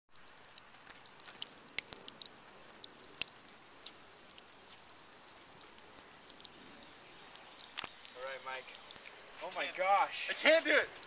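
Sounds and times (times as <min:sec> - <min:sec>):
stream of water trickling: 0:00.1 - 0:11.0
water dripping: 0:00.1 - 0:11.0.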